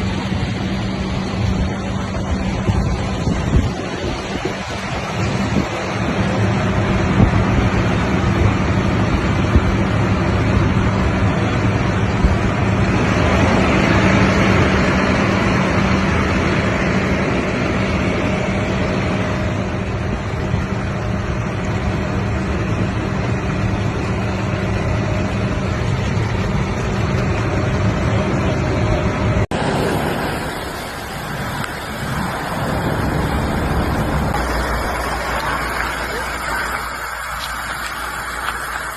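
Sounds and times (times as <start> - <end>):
vehicle engine running: 0.0 - 38.9
water rushing: 0.0 - 38.9.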